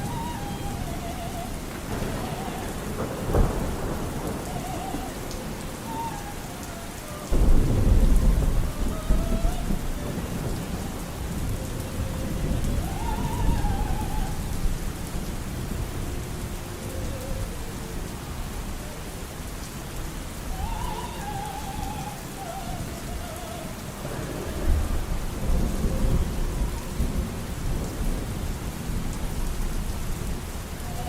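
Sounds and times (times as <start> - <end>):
thunder: 0.0 - 17.6, 20.5 - 31.0
heavy rain: 0.0 - 31.0.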